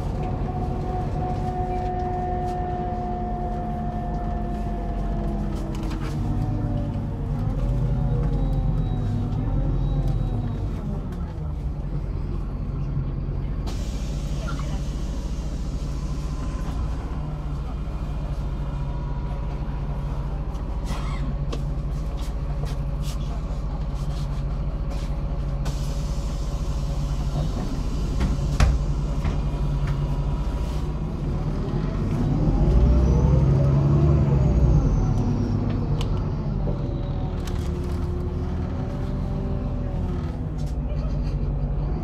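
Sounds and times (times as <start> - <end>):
bus diesel engine droning: 0.0 - 42.0.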